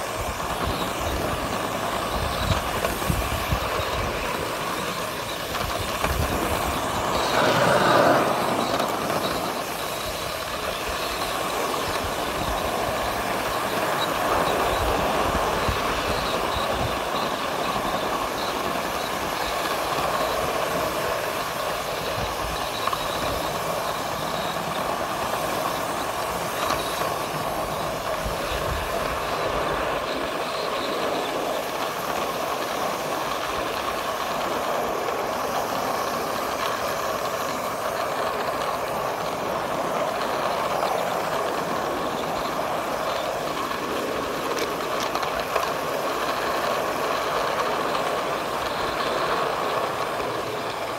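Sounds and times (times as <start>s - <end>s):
wheels rolling on rails: 0.0s - 50.9s.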